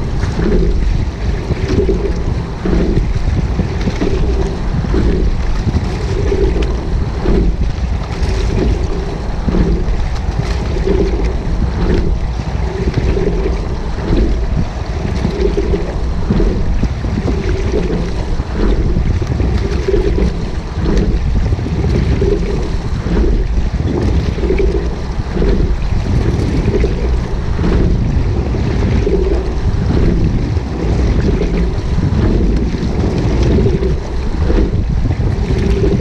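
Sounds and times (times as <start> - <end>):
oar stroke knocks: 0.0 - 36.0
water running along hull: 0.0 - 36.0
wind noise on microphone: 0.0 - 36.0.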